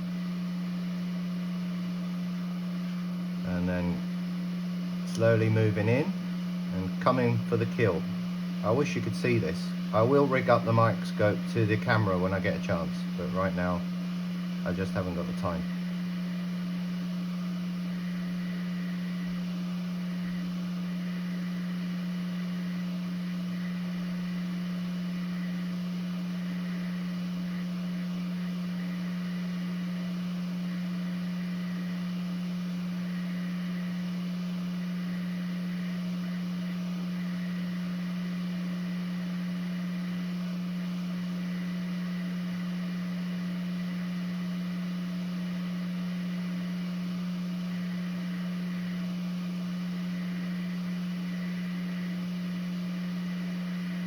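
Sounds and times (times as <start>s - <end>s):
hot-air station blowing hum: 0.0s - 54.0s.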